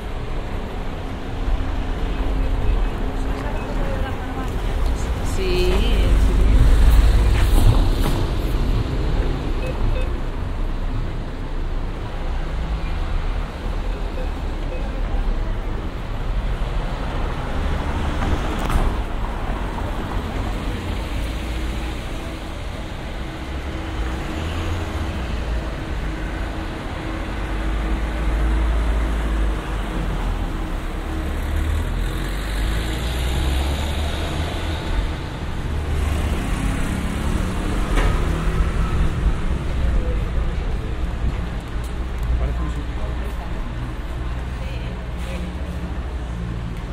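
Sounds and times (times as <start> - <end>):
low street rumble: 0.0 - 46.9.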